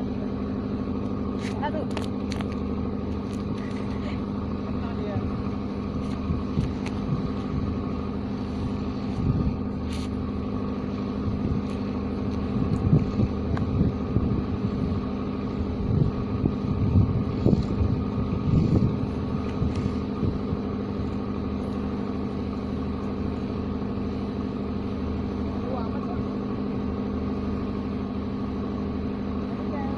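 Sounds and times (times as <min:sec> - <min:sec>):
engine humming steadily: 0:00.0 - 0:29.9.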